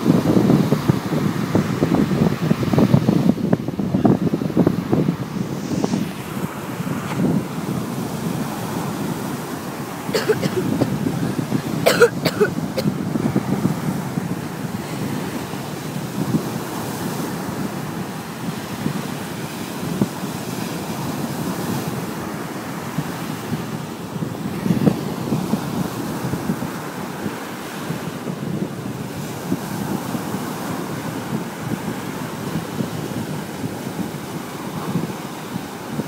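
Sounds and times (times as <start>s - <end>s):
ocean surf breaking: 0.0s - 36.0s
wind buffeting microphone: 0.0s - 36.0s.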